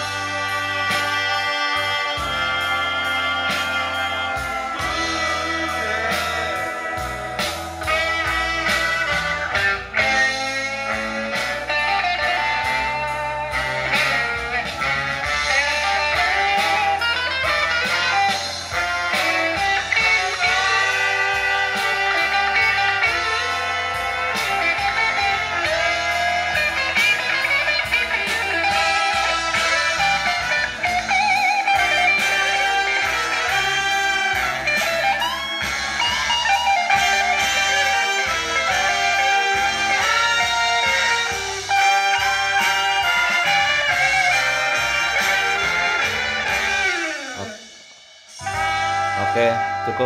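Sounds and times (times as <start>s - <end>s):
guitar music through a speaker: 0.0s - 50.0s
steady beat: 0.0s - 50.0s.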